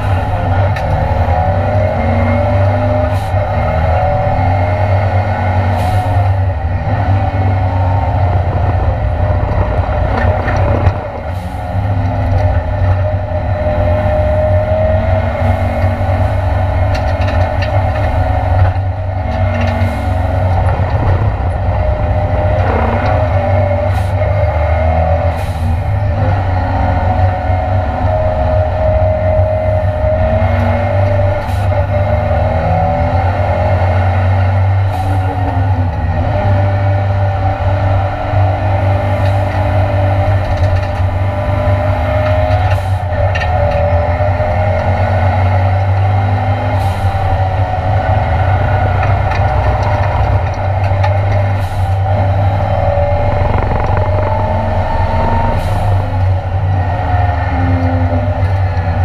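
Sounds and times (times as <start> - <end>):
race car engine revving: 0.0 - 42.8, 43.6 - 59.0.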